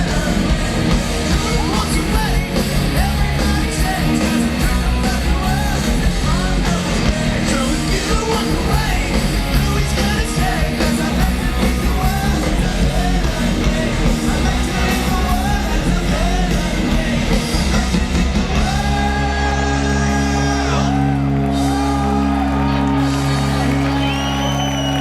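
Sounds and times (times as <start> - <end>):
live punk rock band: 0.0 - 25.0
shouted lead vocals: 0.0 - 25.0.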